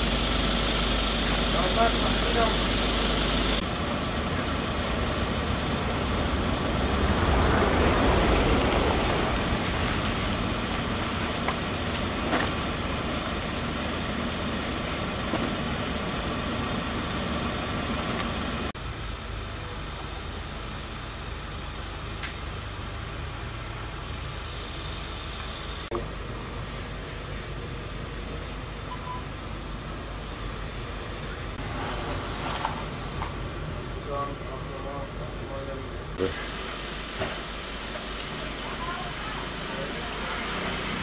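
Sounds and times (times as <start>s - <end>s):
garbage truck engine running: 0.0s - 41.0s
street noise: 0.0s - 41.0s.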